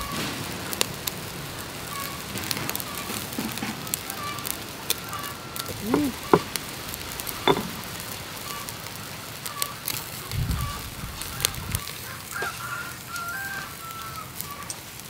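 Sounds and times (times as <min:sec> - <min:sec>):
fat crackling on a grill: 0:00.0 - 0:15.0.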